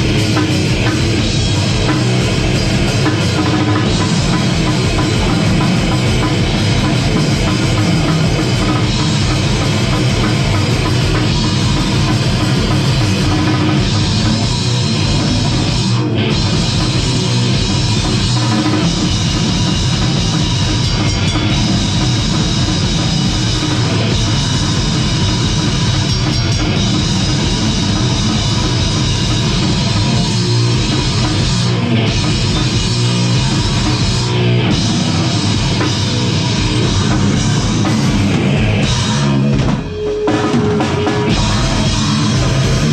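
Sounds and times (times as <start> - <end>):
heavy metal band playing: 0.0 - 42.9
rapid drumming: 0.0 - 42.9.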